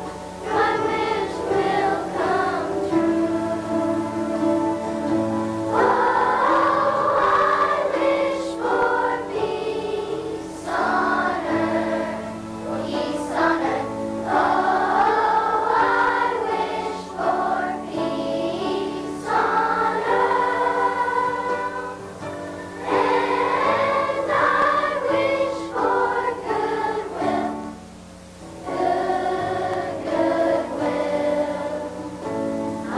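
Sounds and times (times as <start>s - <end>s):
children's choir singing: 0.0s - 32.9s
musical accompaniment: 0.0s - 32.9s.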